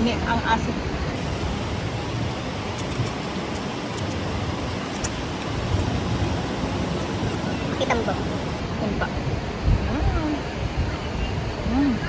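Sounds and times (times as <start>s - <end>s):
rushing background noise: 0.0s - 12.0s.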